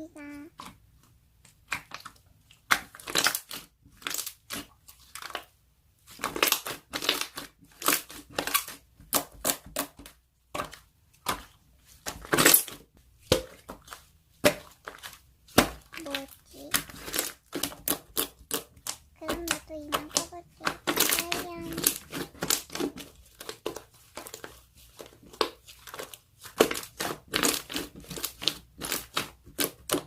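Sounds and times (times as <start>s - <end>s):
slime squished by hand: 1.5s - 30.0s.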